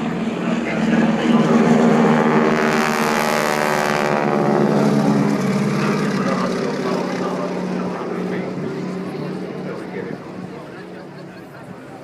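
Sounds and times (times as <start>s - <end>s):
biplane engine droning: 0.0s - 12.0s.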